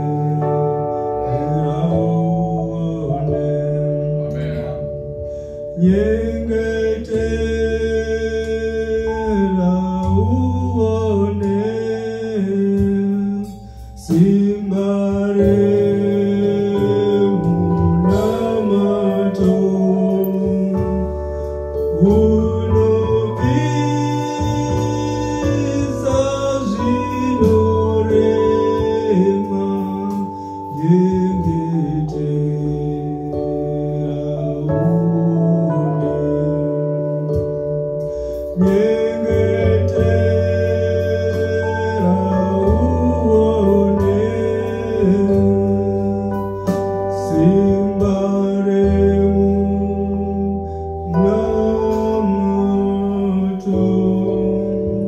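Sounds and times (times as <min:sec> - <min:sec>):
electronic keyboard chords: 0:00.0 - 0:55.0
man singing gospel song: 0:00.0 - 0:55.0.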